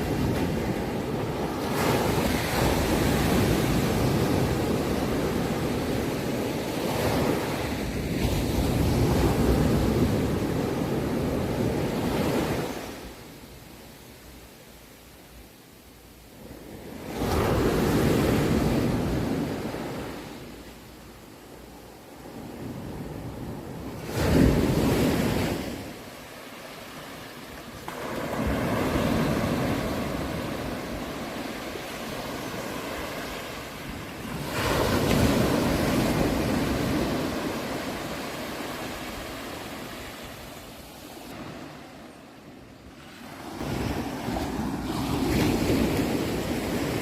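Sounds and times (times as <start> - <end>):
ocean waves breaking on shore: 0.0 - 14.2, 16.2 - 47.0.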